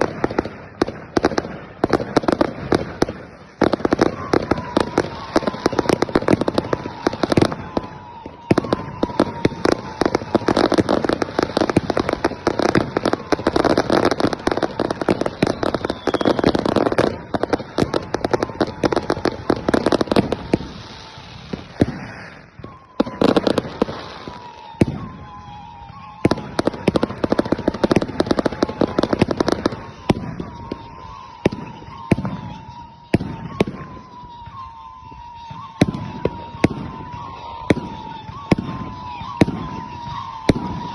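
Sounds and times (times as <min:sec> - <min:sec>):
firecrackers and rockets exploding: 0:00.0 - 0:40.9.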